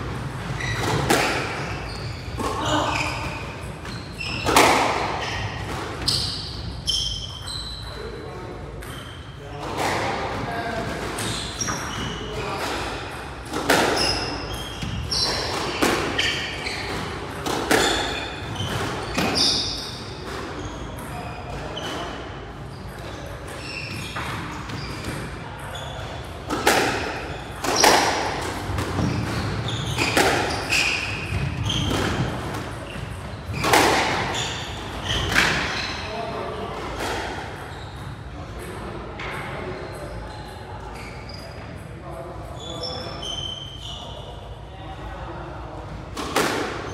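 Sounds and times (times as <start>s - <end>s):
squash ball hitting racquets and walls: 0.0s - 41.8s, 45.8s - 46.9s
shoes squeaking on court floor: 0.1s - 44.6s.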